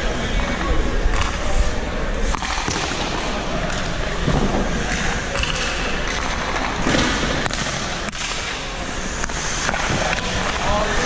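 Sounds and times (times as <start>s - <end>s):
ice rink noise: 0.0s - 11.0s.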